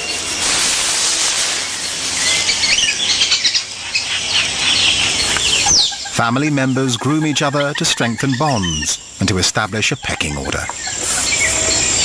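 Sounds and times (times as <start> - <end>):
branches and leaves rustling: 0.0 - 12.0
small animals chirping: 2.2 - 12.0.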